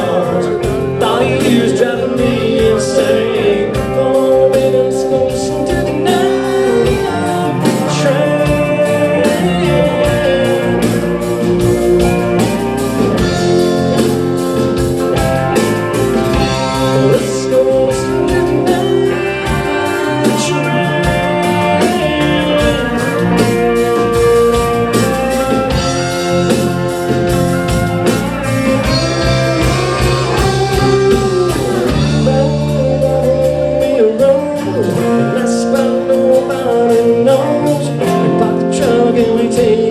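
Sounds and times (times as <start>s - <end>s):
electric guitar: 0.0s - 39.9s
live blues-rock band: 0.0s - 39.9s
steady drums: 0.0s - 39.9s.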